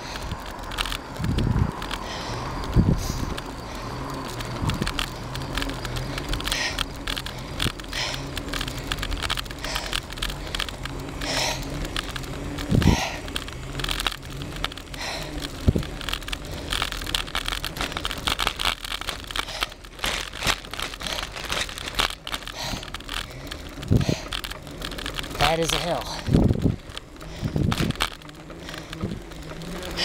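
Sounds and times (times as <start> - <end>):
crackling handling noise: 0.0 - 30.0
small clicks: 0.0 - 30.0.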